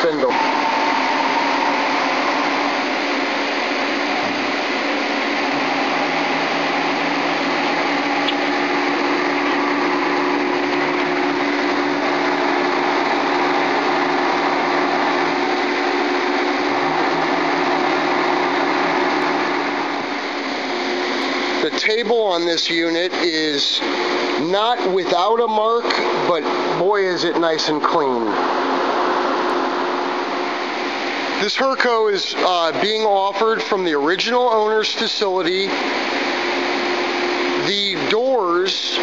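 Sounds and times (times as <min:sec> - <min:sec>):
machine spindle humming: 0:00.0 - 0:39.0.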